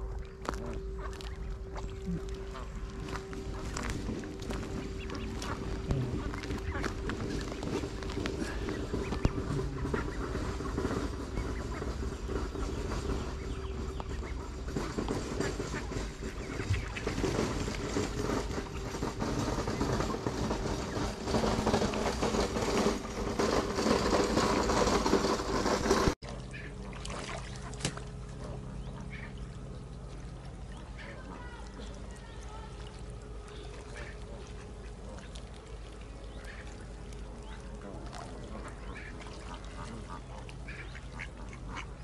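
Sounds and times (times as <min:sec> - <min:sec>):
ducks quacking: 0:00.0 - 0:42.0
geese honking: 0:00.0 - 0:42.0.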